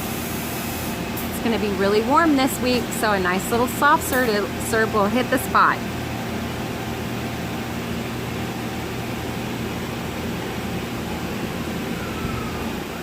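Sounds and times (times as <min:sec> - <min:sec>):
machine hum and whir: 0:00.0 - 0:13.0.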